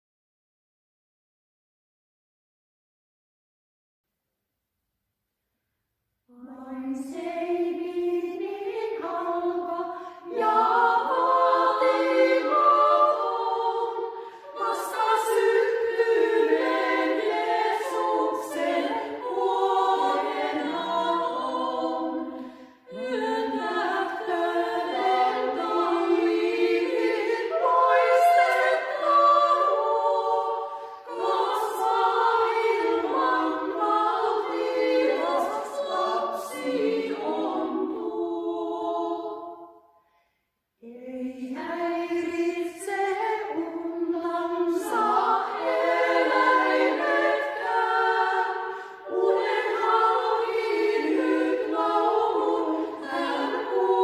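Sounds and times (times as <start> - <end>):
women's choir singing a cappella: 6.3 - 40.0, 40.8 - 54.0.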